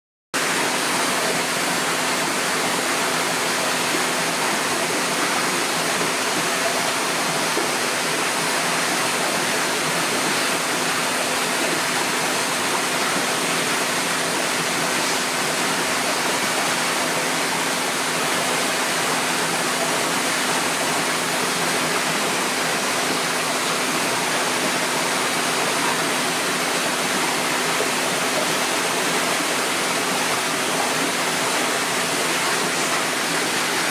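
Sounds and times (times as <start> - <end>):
running water rushing: 0.4 - 33.9.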